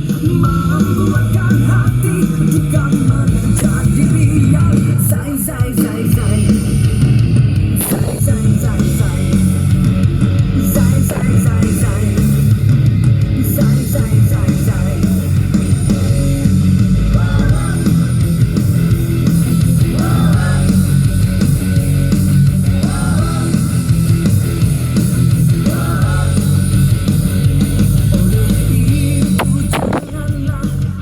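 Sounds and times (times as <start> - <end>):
loud rock music: 0.0 - 31.0.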